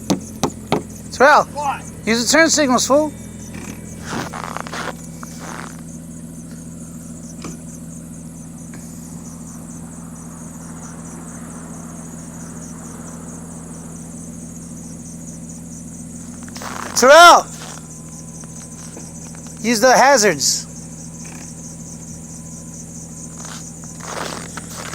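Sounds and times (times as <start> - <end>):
insect chirring: 0.0 - 24.9.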